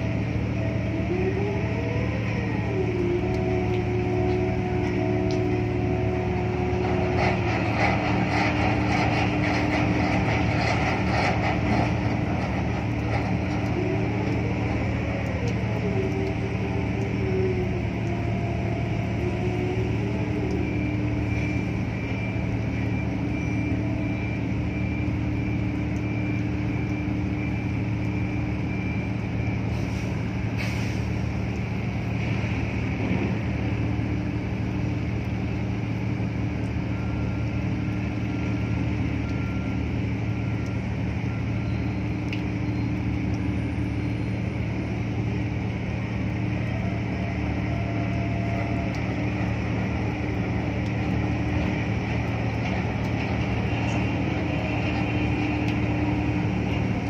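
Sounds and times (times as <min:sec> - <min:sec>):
diesel machinery drone: 0:00.0 - 0:57.0.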